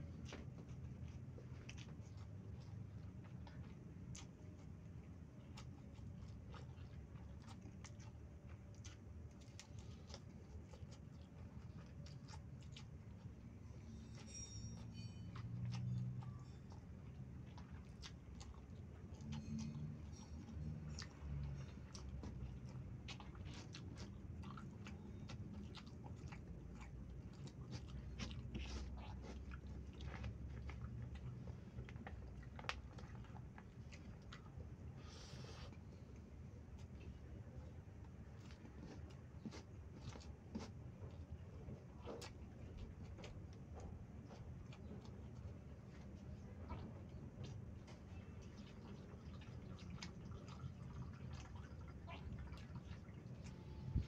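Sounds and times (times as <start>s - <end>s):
chewing fried snack: 0.0s - 54.0s
steady low hum: 0.0s - 54.0s.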